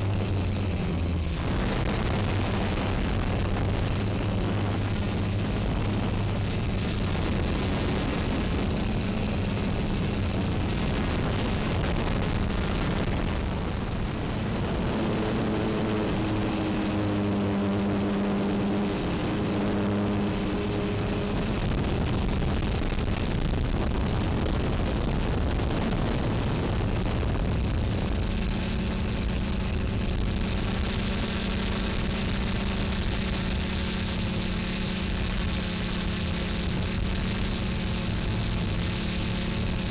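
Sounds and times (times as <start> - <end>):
drone propellers humming: 0.0 - 39.9
wind noise on microphone: 0.0 - 39.9.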